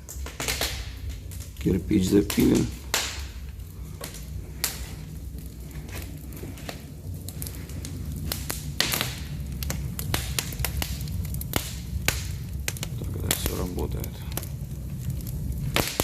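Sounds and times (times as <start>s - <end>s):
steady low rumble: 0.0s - 16.0s
wood fire crackling and popping: 0.0s - 16.0s.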